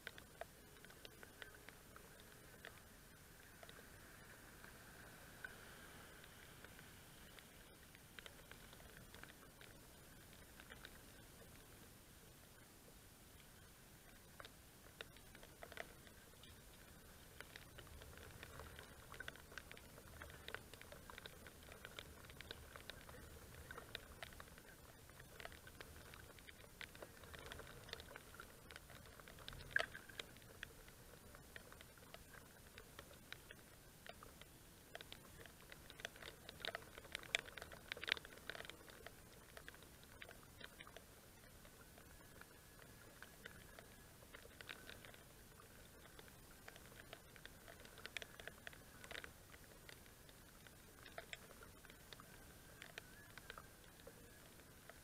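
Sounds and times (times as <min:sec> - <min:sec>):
raindrops ticking on camera: 0:00.0 - 0:55.0.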